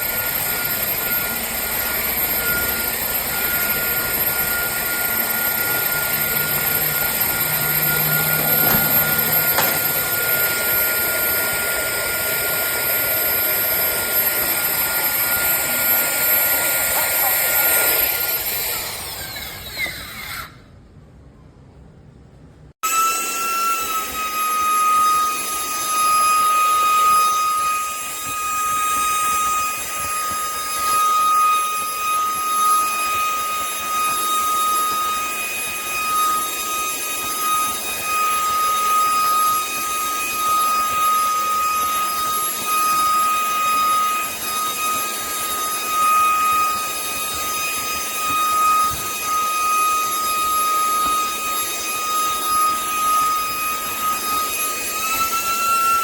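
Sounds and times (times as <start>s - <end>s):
vacuum cleaner motor whining: 0.0s - 20.8s, 22.8s - 56.0s.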